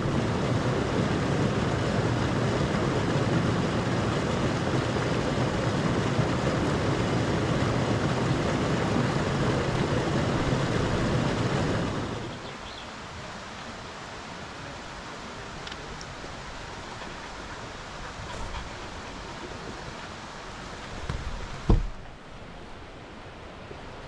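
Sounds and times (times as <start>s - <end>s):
stream flowing over stones: 0.0s - 24.0s.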